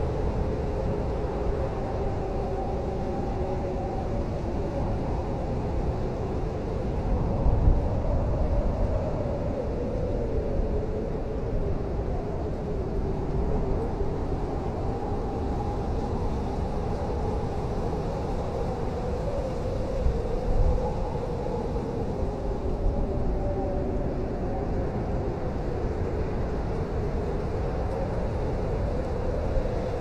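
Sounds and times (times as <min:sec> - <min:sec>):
blizzard wind howling: 0:00.0 - 0:30.0.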